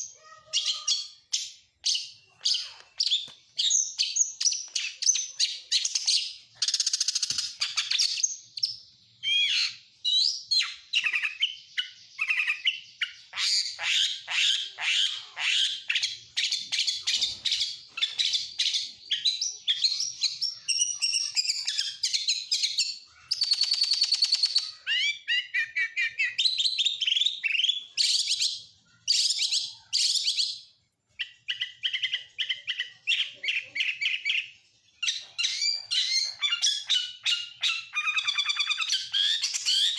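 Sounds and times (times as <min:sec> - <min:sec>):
songbird singing whistles and trills: 0:00.2 - 0:39.9.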